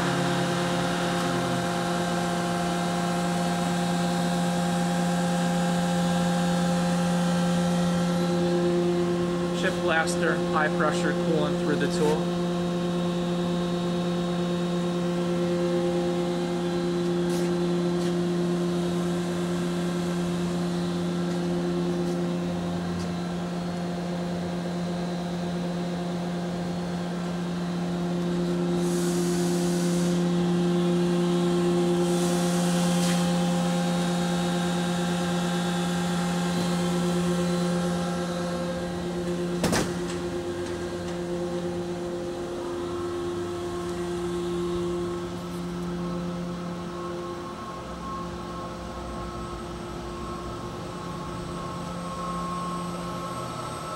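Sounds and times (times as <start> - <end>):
electric motor and pump hum: 0.0 - 53.9.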